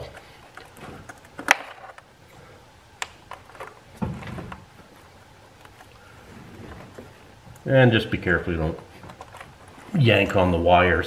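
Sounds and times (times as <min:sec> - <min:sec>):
handling of wiring: 0:00.0 - 0:10.4.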